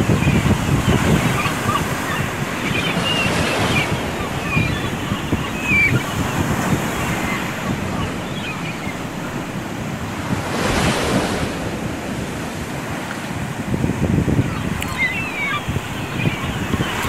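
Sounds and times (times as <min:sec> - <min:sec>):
ocean surf breaking: 0:00.0 - 0:17.0
wind rumbling on microphone: 0:00.0 - 0:17.0.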